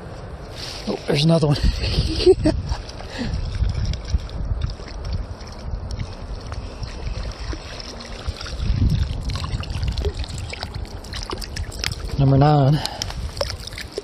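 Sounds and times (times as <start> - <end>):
wind gusts on microphone: 0.0 - 14.0
river water trickling: 2.7 - 14.0.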